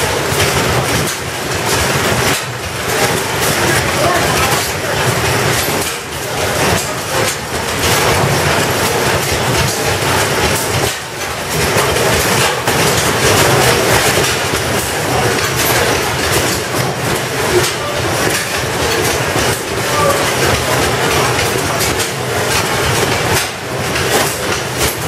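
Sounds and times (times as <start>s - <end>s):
rapid repeated knocks: 0.0s - 25.0s
stationary engines running: 0.0s - 25.0s.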